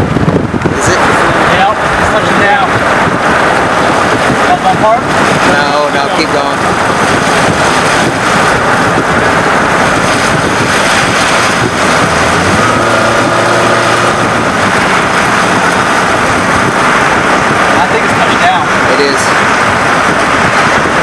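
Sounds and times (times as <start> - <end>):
vehicle road and wind noise: 0.0 - 21.0
wind buffeting microphone: 0.0 - 21.0.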